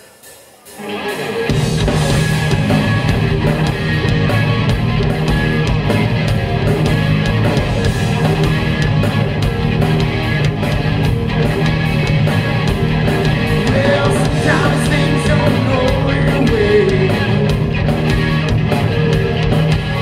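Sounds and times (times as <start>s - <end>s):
live rock band playing: 0.0s - 20.0s
steady drum beat: 0.0s - 20.0s.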